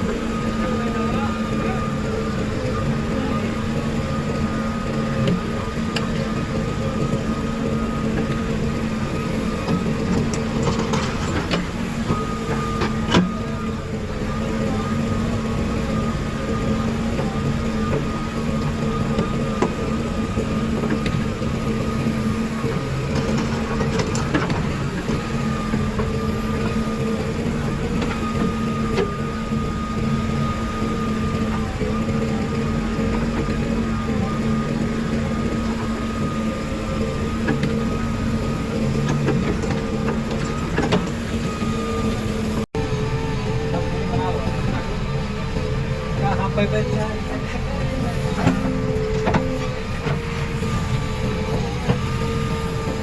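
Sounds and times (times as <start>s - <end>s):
diesel engine drone: 0.0s - 53.0s.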